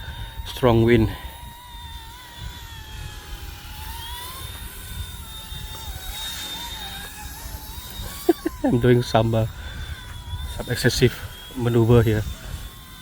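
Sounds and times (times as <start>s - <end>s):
helicopter motor and rotor whining: 0.0s - 13.0s
wind rumble on microphone: 0.0s - 13.0s.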